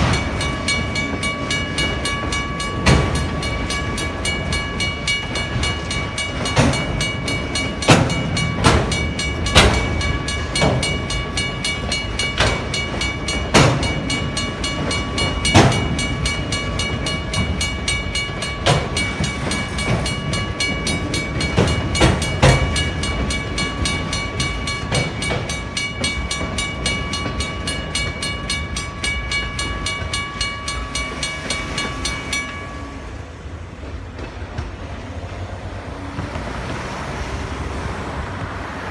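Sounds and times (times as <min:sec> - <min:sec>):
crossing bell ringing: 0:00.0 - 0:35.0
train rumbling: 0:00.0 - 0:38.9.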